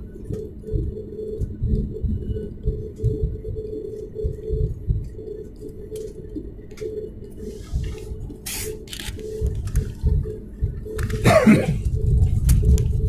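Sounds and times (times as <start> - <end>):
airplane cabin taxiing rumble: 0.0 - 13.0.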